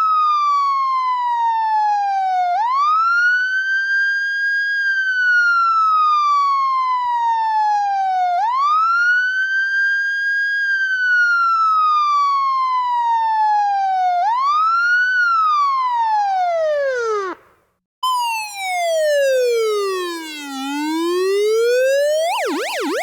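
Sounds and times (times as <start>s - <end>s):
police siren wailing: 0.0s - 17.4s, 18.0s - 23.0s.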